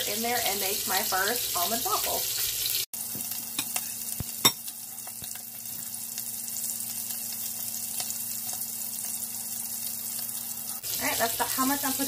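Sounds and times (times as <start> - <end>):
bacon sizzling in grease: 0.0 - 12.0.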